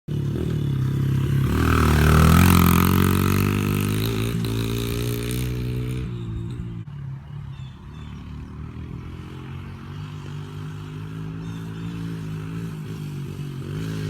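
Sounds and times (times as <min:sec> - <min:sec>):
dirt bike engine revving: 0:00.1 - 0:07.2, 0:07.8 - 0:14.0.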